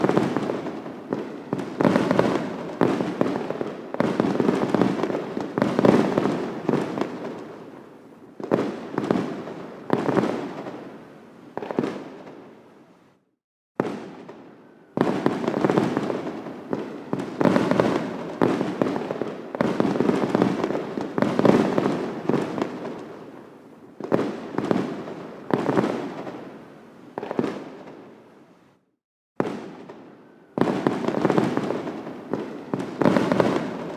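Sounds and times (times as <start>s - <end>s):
fireworks banging and crackling: 0.0s - 12.6s, 13.8s - 28.2s, 29.4s - 33.9s.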